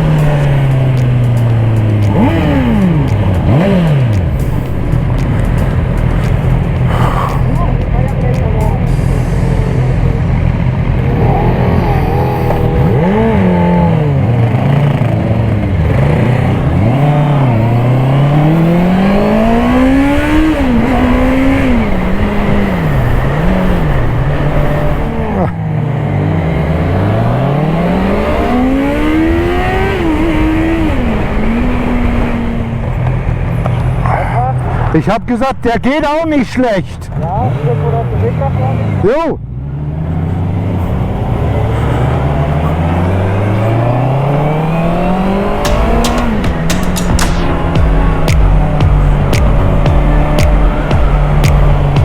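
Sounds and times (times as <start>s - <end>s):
motorcycle engine accelerating: 0.0s - 35.0s, 37.1s - 52.0s
wind and road noise: 0.0s - 52.0s.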